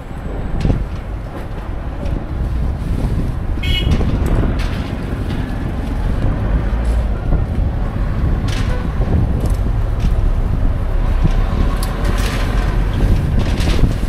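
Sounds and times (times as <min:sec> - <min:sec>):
wind gusting over microphone: 0:00.0 - 0:14.0.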